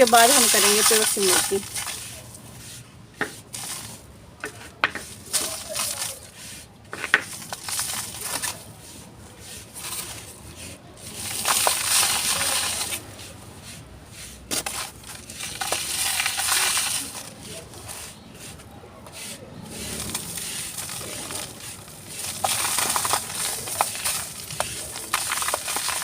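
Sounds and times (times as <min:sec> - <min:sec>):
dry cement crunching and snapping: 0:00.0 - 0:02.4, 0:03.2 - 0:13.3, 0:14.2 - 0:26.0.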